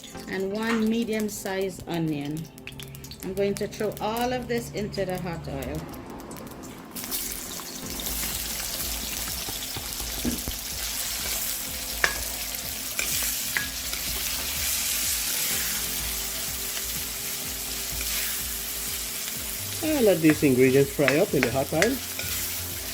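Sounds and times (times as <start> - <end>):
vegetables sizzling in hot oil: 0.0 - 22.9.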